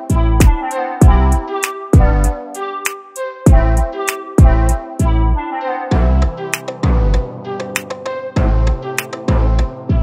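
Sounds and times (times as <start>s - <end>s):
held chords: 0.0s - 10.0s.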